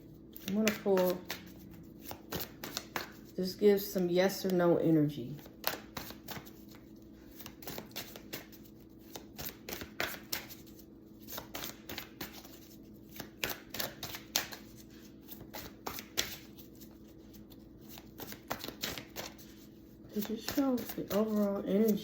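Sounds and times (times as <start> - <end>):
cards being shuffled: 0.3 - 3.4, 5.3 - 22.0.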